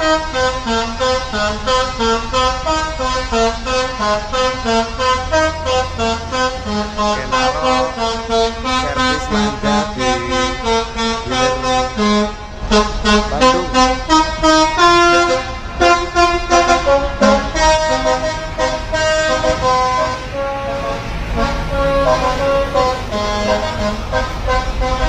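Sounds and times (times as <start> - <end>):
air horn melody: 0.0 - 25.0.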